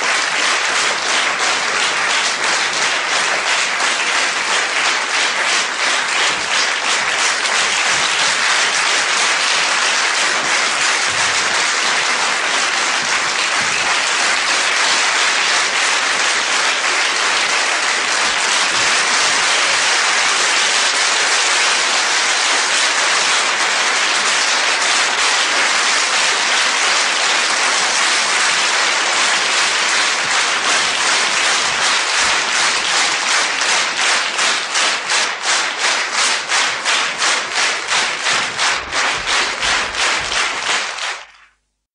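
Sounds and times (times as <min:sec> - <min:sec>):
audience applauding: 0:00.0 - 0:41.6.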